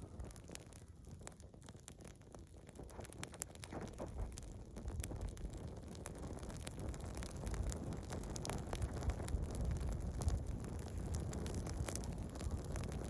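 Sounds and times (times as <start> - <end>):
campfire crackling and popping: 0.0 - 13.0
low rumble of flames: 0.0 - 13.0
wind on microphone: 0.0 - 13.0.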